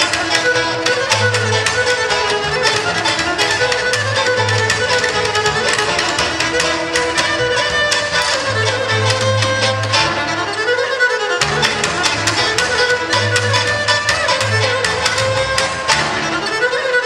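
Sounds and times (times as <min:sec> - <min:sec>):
double bass: 0:00.0 - 0:10.7, 0:11.4 - 0:16.5
bowed fiddle melody: 0:00.0 - 0:17.0
strummed lute: 0:00.0 - 0:17.0.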